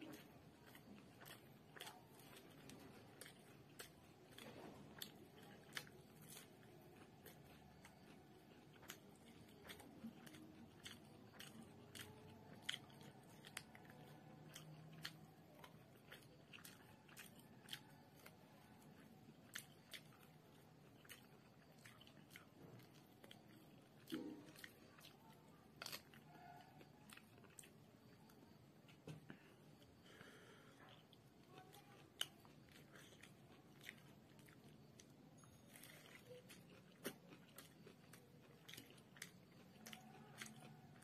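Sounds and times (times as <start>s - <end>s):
chewing with lip smacks: 0.0s - 41.0s.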